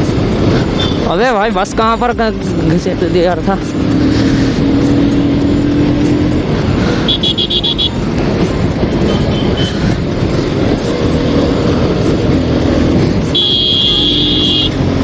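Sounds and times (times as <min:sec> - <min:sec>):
motorcycle engine: 0:00.0 - 0:15.0
wind noise: 0:00.0 - 0:15.0.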